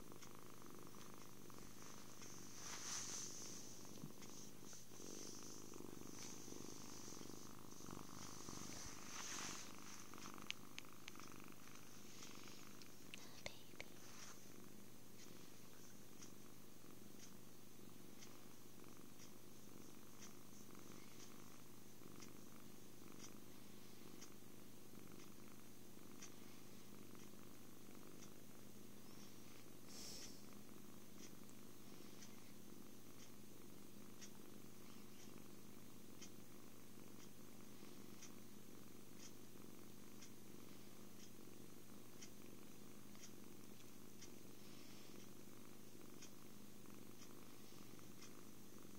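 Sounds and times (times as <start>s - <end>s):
kitten purring: 0.0s - 48.9s.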